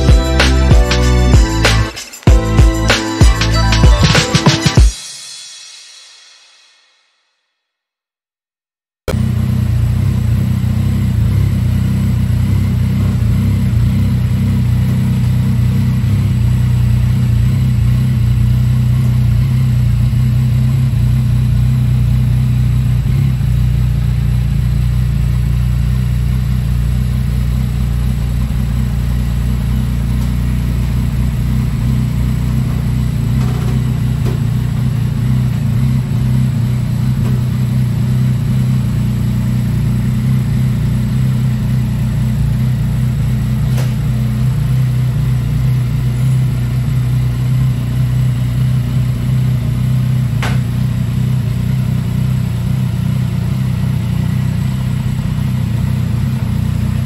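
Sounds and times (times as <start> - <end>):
motorcycle engine idling: 0.0 - 4.2, 9.1 - 57.0.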